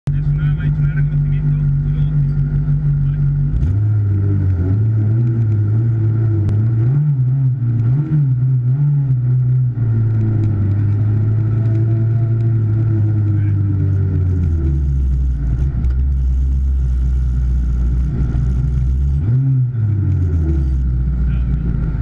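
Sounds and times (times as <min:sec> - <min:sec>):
car engine humming from inside: 0:00.1 - 0:22.0.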